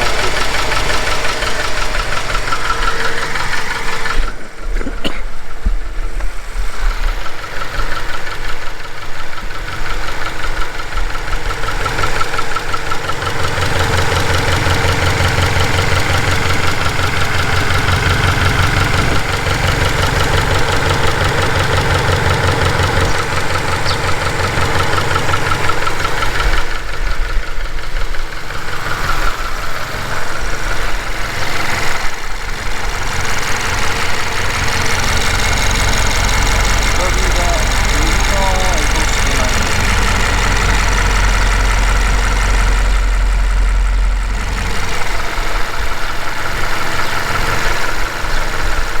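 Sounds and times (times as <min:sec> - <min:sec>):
car engine idling: 0:00.0 - 0:49.0
fast engine ticking: 0:00.0 - 0:49.0.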